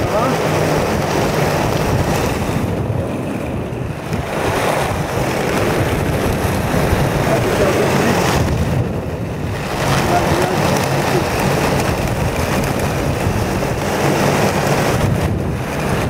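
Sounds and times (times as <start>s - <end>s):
wheels rolling on asphalt: 0.0s - 16.0s
wind rushing over microphone: 0.0s - 16.0s.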